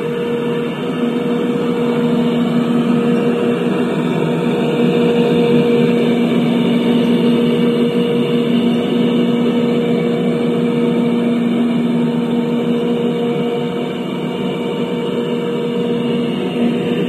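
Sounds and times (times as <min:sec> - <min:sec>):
toy excavator motor droning: 0:00.0 - 0:17.0.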